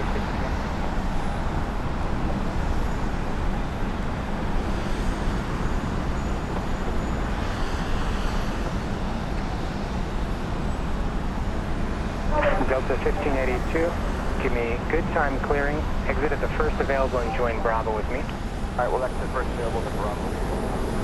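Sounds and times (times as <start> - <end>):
jet airliner rumble: 0.0 - 21.0.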